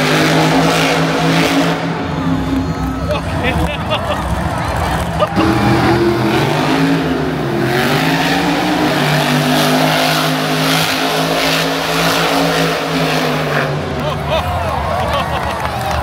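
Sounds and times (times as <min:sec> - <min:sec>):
truck engine running loudly: 0:00.0 - 0:16.0.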